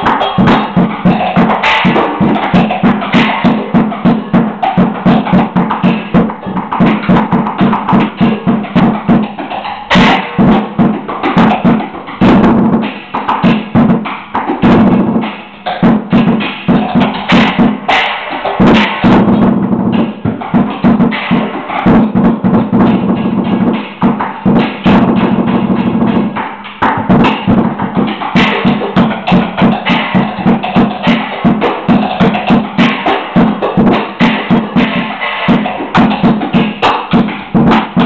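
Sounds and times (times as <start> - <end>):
drumsticks beating plastic buckets: 0.0 - 38.0.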